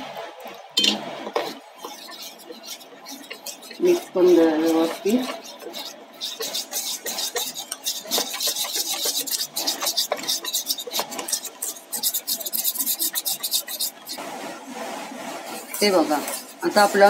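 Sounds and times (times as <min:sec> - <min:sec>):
whisk beating batter in steel bowl: 0:00.0 - 0:17.0.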